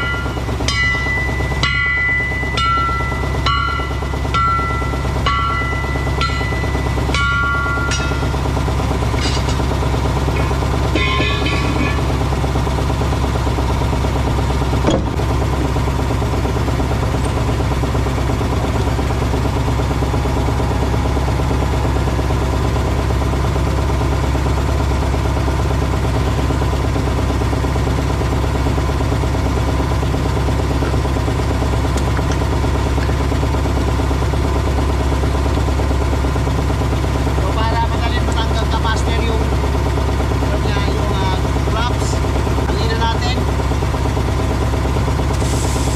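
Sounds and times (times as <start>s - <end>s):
engine droning: 0.0s - 45.9s.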